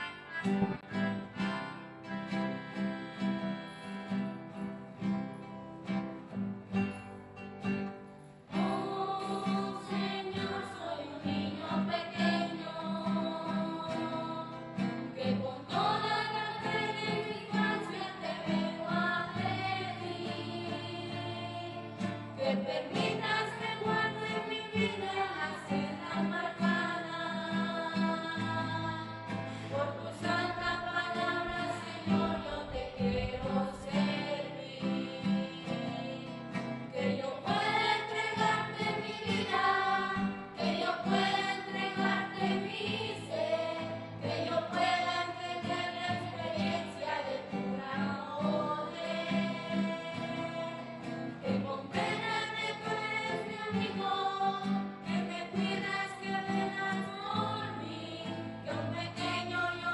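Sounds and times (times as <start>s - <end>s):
children and woman singing a hymn: 0.0s - 0.2s, 2.3s - 5.1s, 8.5s - 59.9s
strummed acoustic guitar: 0.0s - 59.9s.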